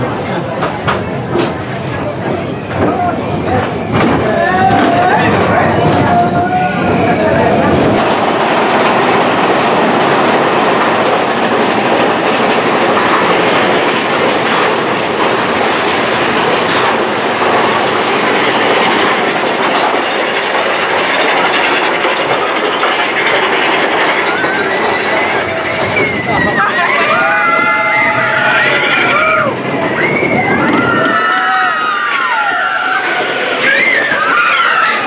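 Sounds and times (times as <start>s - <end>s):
roller coaster wheels clattering: 0.0s - 35.0s.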